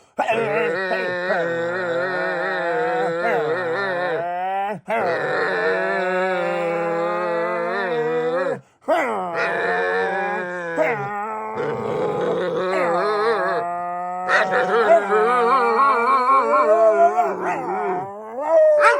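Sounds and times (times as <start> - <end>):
dog howling and groaning: 0.2 - 18.9.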